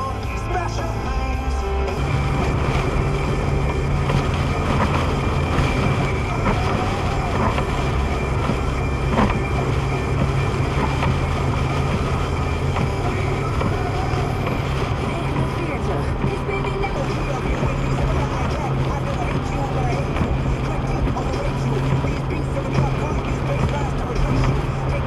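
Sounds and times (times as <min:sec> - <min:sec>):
car driving in rain from inside: 0:00.0 - 0:25.0.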